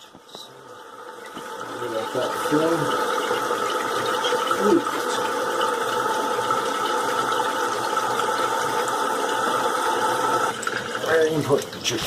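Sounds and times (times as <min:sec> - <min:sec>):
toilet tank refilling hiss: 0:00.0 - 0:12.0.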